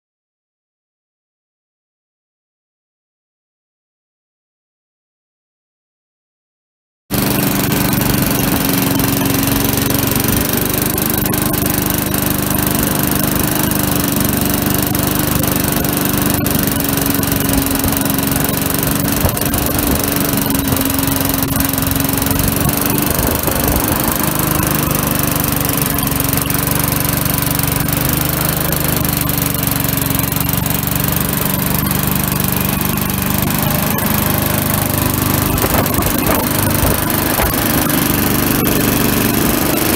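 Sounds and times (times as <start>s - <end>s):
lawn mower engine running: 7.1s - 39.9s.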